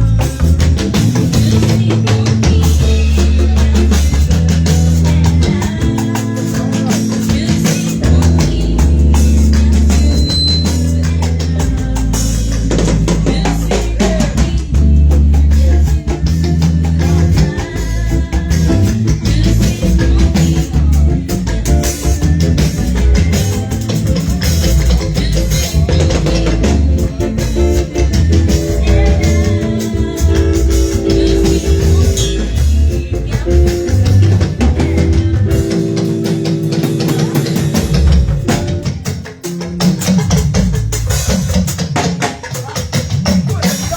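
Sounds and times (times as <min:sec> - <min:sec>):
band playing: 0:00.0 - 0:43.9
drum strikes: 0:00.0 - 0:43.9.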